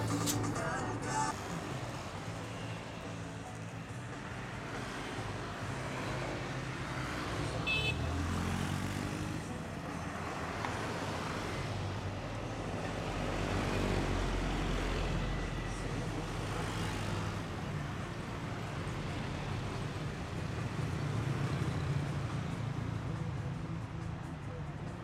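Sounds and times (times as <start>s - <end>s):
heavy road traffic rumble: 0.0s - 25.0s.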